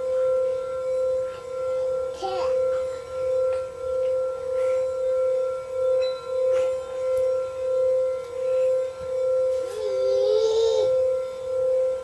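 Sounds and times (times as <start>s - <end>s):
singing bowls ringing tone: 0.0s - 12.0s
wavering tone: 0.0s - 12.0s.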